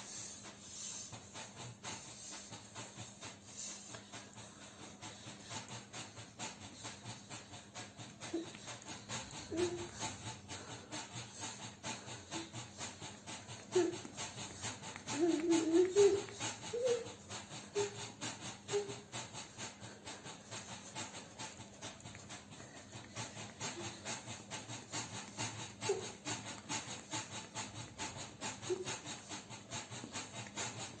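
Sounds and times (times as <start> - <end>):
rhythmic rubbing: 0.0 - 31.0.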